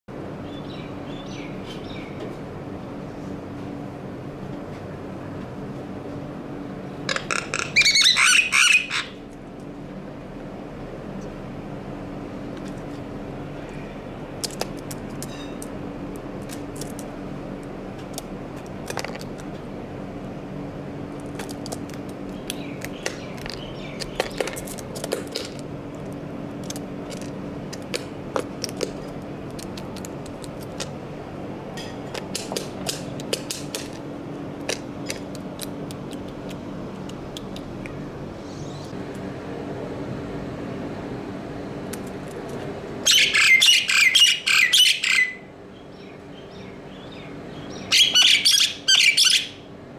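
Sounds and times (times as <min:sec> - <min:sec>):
steady low hum: 0:00.1 - 0:49.9.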